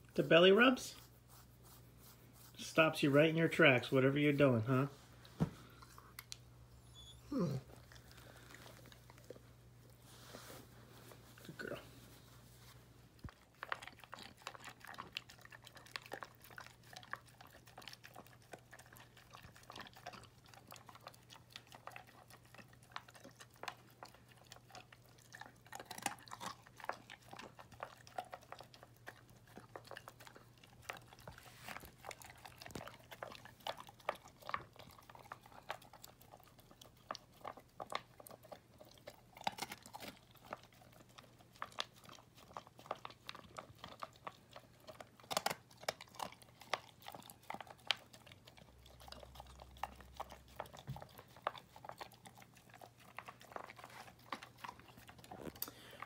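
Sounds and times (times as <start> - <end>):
dog chewing and crunching: 0.0 - 56.0.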